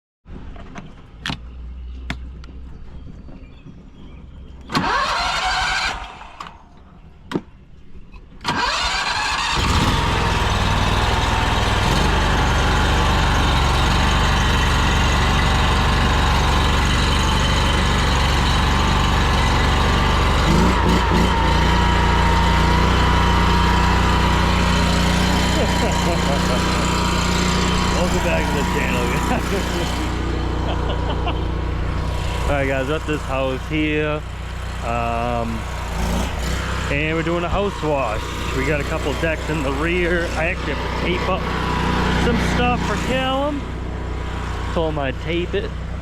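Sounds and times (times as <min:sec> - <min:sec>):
engine cranking and starting: 0:04.6 - 0:06.7, 0:08.4 - 0:45.4.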